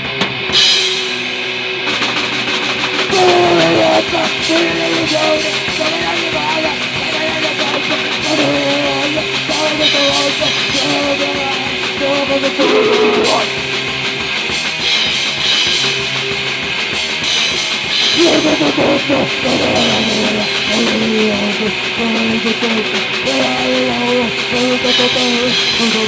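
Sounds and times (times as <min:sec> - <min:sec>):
drum kit playing: 0:01.9 - 0:16.1, 0:17.2 - 0:26.0
distorted electric guitar: 0:02.2 - 0:14.9, 0:17.7 - 0:26.0.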